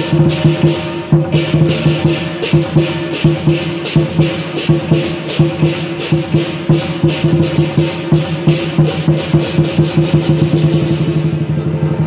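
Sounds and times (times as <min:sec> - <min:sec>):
big drum beating: 0:00.0 - 0:12.0
cymbals clashing: 0:00.0 - 0:12.0
gong: 0:00.0 - 0:12.0.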